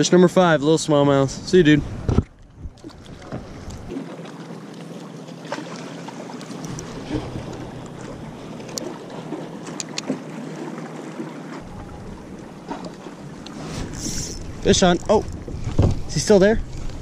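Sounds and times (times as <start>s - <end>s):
water lapping against kayak hull: 1.4s - 17.0s.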